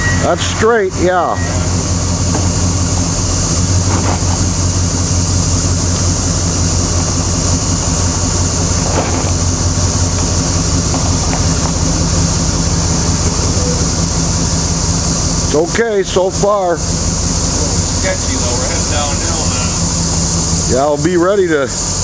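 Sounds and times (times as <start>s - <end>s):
vehicle engine running low: 0.0s - 22.0s.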